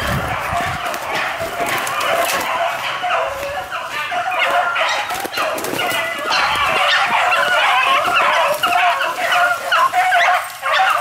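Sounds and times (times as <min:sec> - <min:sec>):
pack of dogs baying: 0:00.0 - 0:11.0.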